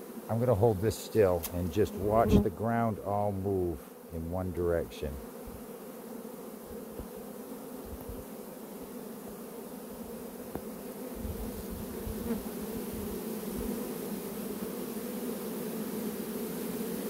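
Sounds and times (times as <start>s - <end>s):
honeybee swarm buzzing: 0.0s - 17.0s.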